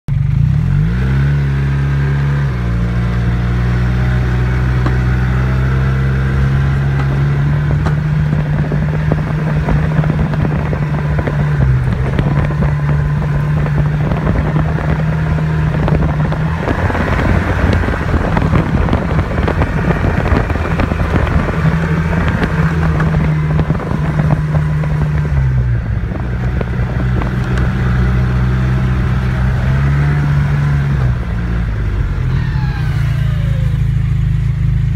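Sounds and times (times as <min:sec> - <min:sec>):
snowmobile engine running: 0:00.2 - 0:34.9.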